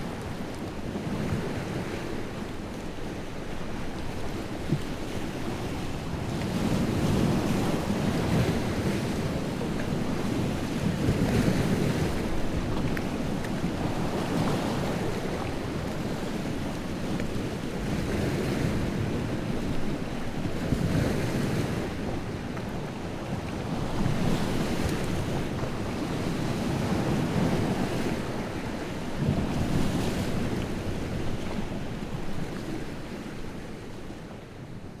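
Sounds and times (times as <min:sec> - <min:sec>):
waves breaking on shore: 0:00.0 - 0:34.9.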